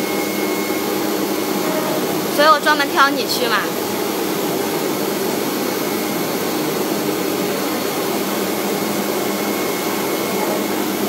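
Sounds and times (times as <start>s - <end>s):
cutter plotter whirring hum: 0.0s - 11.0s.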